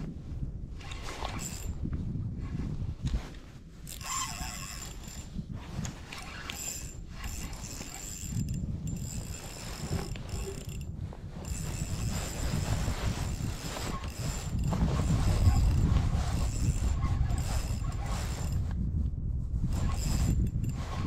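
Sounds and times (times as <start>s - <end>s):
wind on microphone: 0.0s - 21.0s
fishing reel whirring and clicking: 0.9s - 1.8s, 3.9s - 18.7s, 19.7s - 21.0s.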